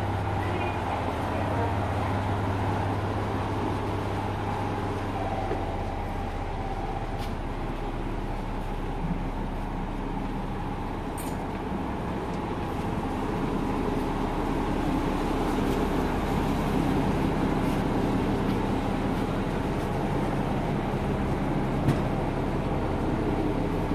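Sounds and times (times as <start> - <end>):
train carriage rumble and hiss: 0.0 - 23.9.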